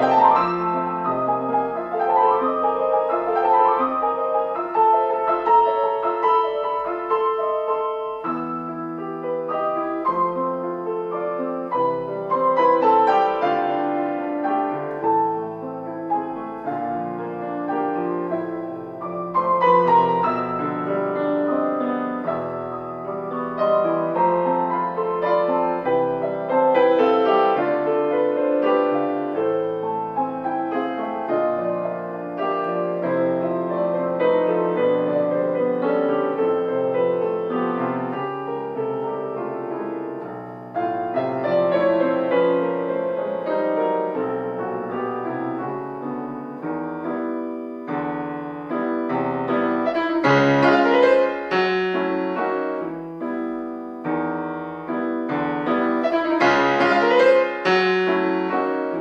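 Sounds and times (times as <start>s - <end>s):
grand piano playing classical: 0.0s - 59.0s.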